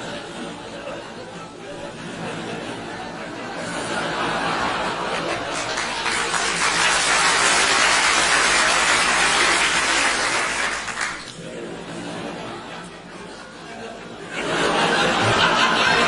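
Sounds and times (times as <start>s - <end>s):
large audience laughing: 0.0s - 16.0s.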